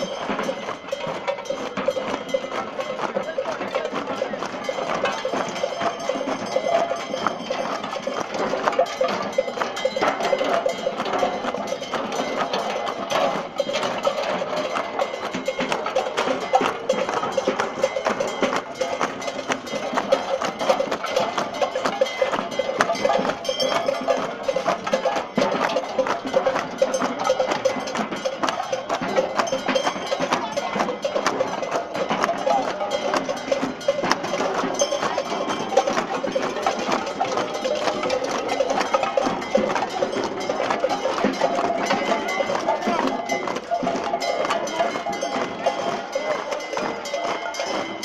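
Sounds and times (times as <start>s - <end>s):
bell clanks: 0.0s - 48.0s.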